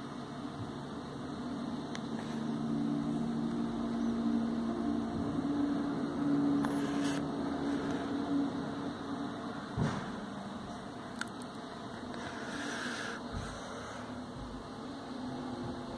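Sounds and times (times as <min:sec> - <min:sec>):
low mechanical hum with tones: 0:00.0 - 0:15.9.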